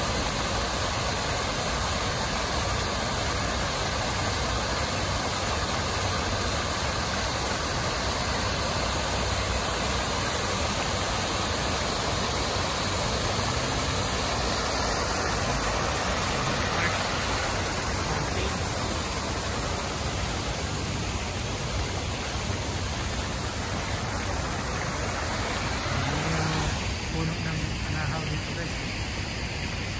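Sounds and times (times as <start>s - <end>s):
water splashing into pond: 0.0s - 29.9s.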